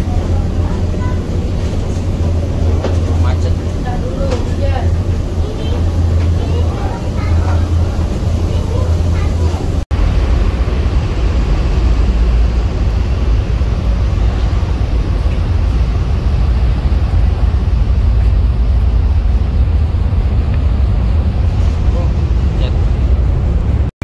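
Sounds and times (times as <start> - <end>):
ferry low rumble and rushing: 0.0 - 24.0.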